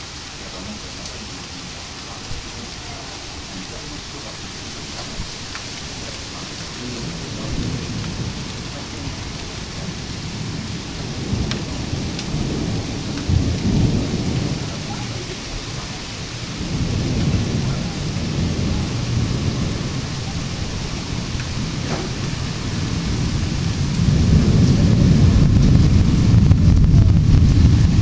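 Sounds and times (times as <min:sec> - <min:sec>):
rain hissing: 0:00.0 - 0:28.0
thunder rumbling: 0:00.0 - 0:28.0.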